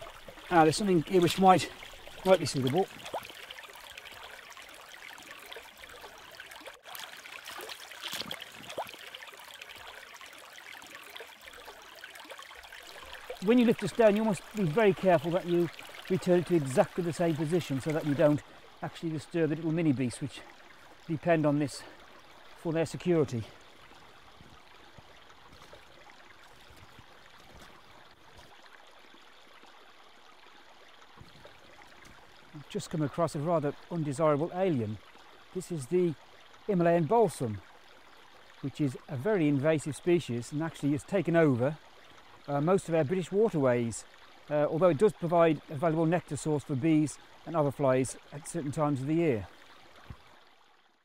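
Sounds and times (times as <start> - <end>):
brook trickling over stones: 0.0 - 51.0.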